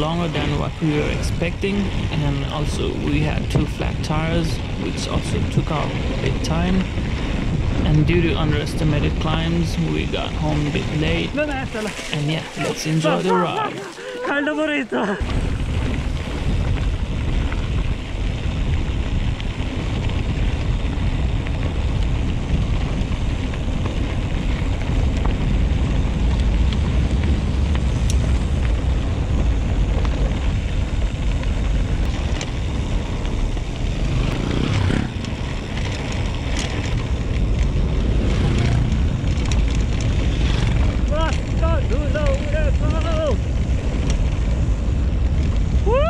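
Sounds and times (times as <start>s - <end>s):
bike clicks and rattles: 0.0s - 12.6s, 15.2s - 46.0s
low rumble of bike: 0.0s - 46.0s
wind rushing on microphone: 0.0s - 46.0s.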